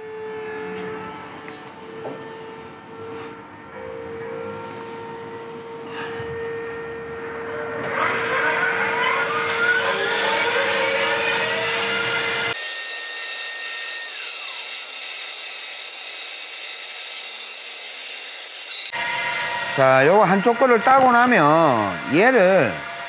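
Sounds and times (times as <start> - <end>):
bandsaw motor whining: 0.0 - 23.0.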